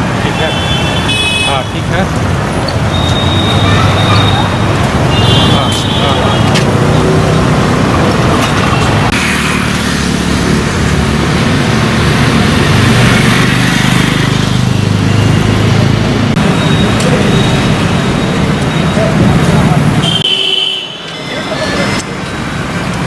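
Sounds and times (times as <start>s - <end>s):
low traffic rumble: 0.0s - 23.0s
tyres on road: 0.0s - 23.0s
vehicle engines: 0.0s - 23.0s.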